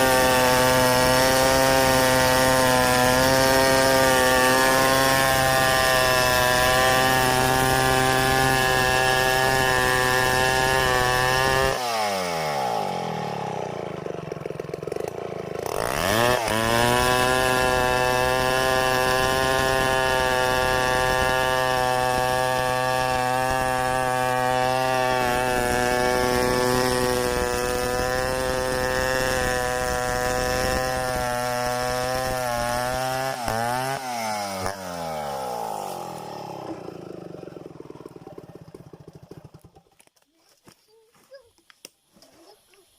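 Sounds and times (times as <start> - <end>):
chainsaw milling a log: 0.0 - 42.9.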